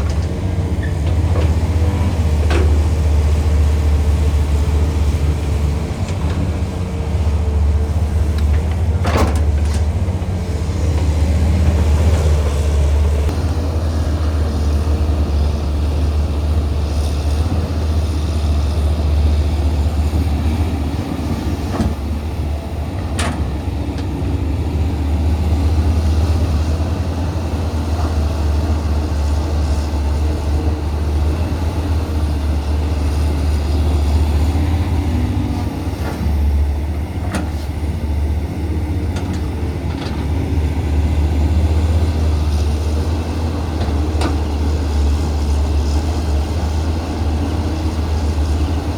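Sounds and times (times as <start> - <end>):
excavator diesel engine drone: 0.0 - 48.9.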